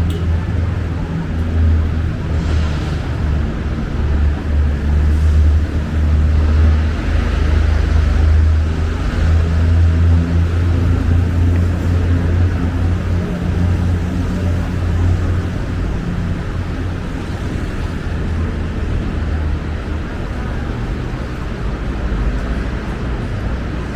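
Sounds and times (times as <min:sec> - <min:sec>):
city road traffic rumble: 0:00.0 - 0:23.9
vehicles passing: 0:00.0 - 0:23.9.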